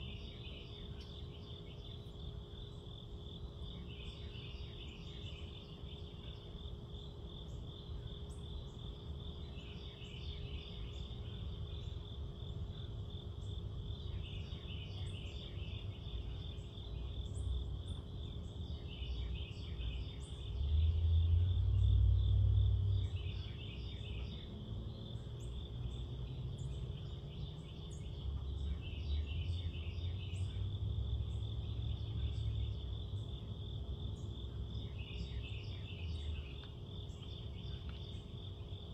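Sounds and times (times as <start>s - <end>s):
night insects chirping: 0.0s - 38.9s.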